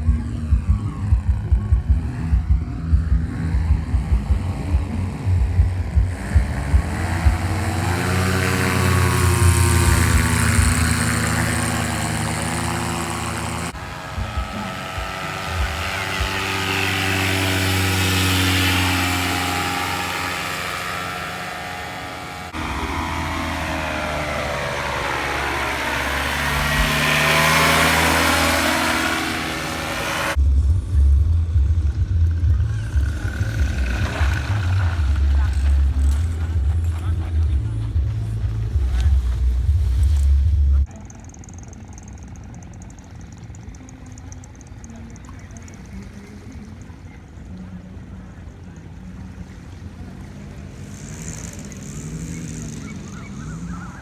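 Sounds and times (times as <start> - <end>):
paramotor engine droning past: 0.0 - 30.6, 31.4 - 54.0.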